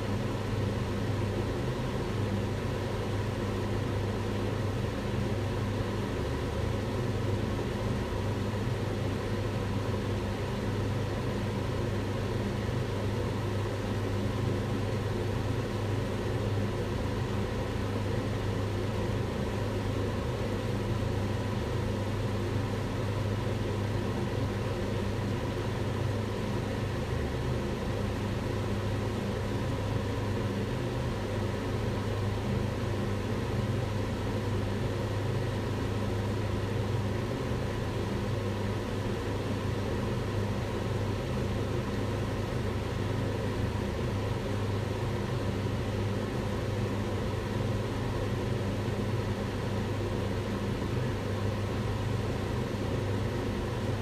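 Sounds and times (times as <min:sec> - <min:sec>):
extractor fan running: 0:00.0 - 0:54.0.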